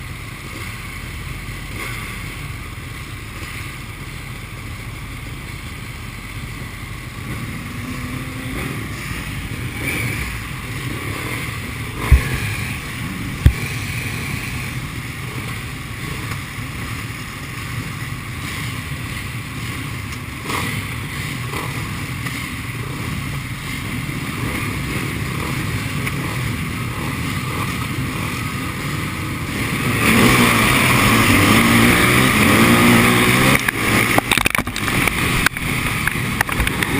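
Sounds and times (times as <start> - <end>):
distant motorcycle engines: 0.0 - 36.9.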